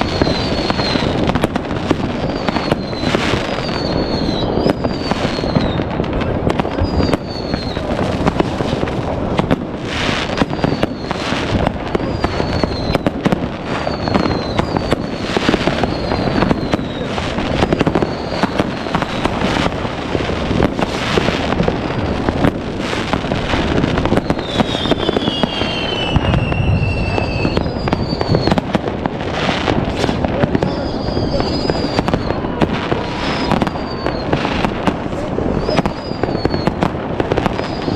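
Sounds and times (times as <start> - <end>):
falling whistles of fireworks: 0.0 - 37.9
fireworks bangs and crackling: 0.0 - 37.9.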